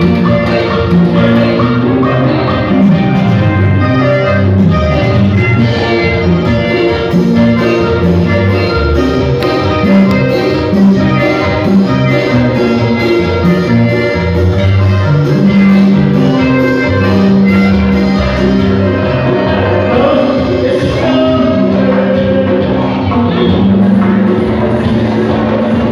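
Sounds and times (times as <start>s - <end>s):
latin band music: 0.0s - 25.9s.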